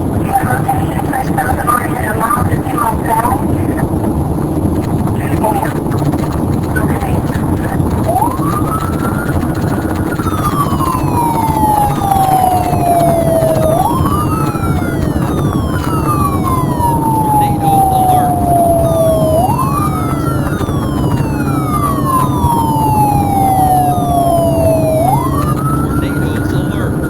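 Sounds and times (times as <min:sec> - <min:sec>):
siren wailing: 0:00.0 - 0:27.0
steady low rumble: 0:00.0 - 0:27.0.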